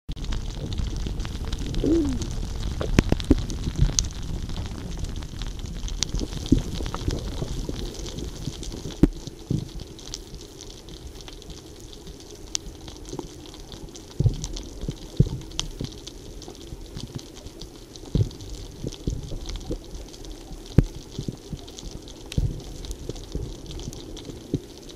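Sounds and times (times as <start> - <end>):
muffled underwater rumble: 0.2 - 24.9.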